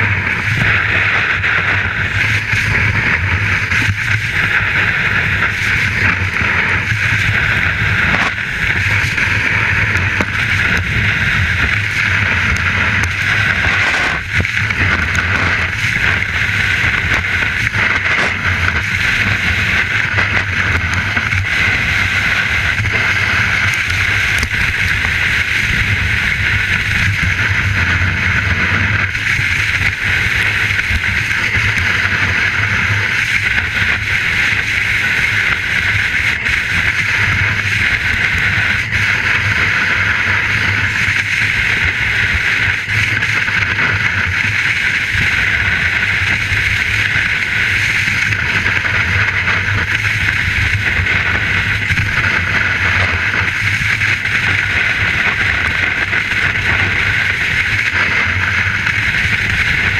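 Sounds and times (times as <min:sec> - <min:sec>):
sled sliding over snow: 0:00.0 - 0:59.9
wind rumble on microphone: 0:00.0 - 0:59.9.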